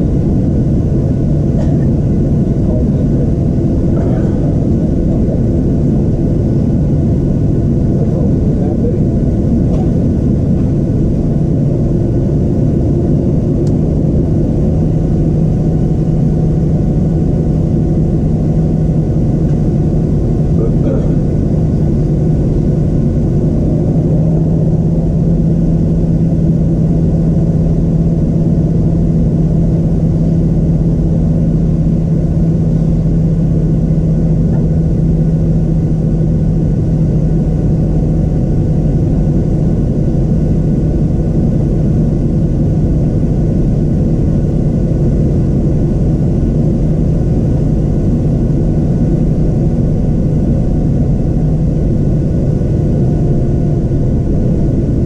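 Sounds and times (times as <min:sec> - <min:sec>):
aircraft cabin engine drone: 0:00.0 - 0:55.0
hum: 0:00.0 - 0:55.0.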